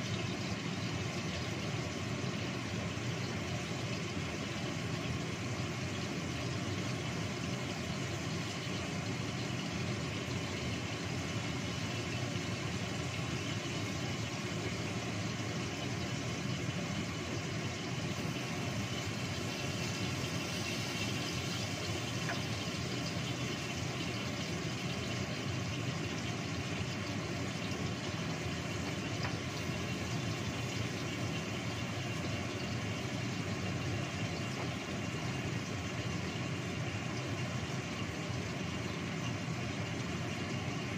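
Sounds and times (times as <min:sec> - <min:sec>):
gas stove burner hissing: 0:00.0 - 0:40.9.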